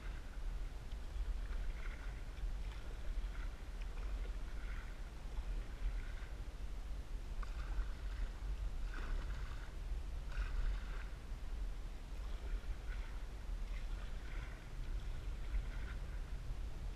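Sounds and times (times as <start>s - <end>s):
paddle splashing in water: 0.0s - 6.6s, 7.3s - 11.4s, 12.1s - 16.6s
steady low rumble: 0.0s - 16.9s.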